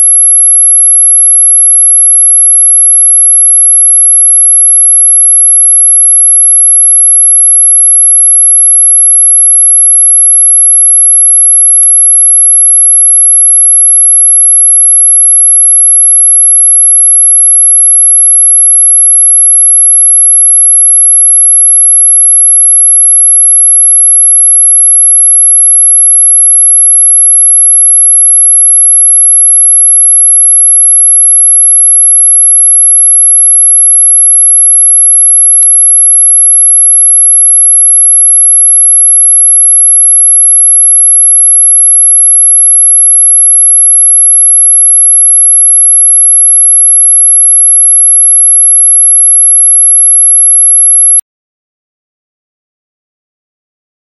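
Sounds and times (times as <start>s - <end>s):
high-pitched whistle tone: 0.0s - 51.2s.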